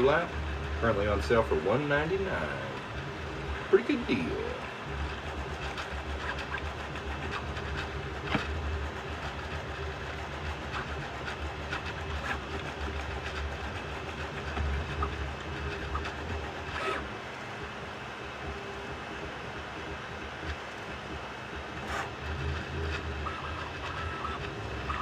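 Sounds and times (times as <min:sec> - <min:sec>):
printer motors and fans humming: 0:00.0 - 0:25.0.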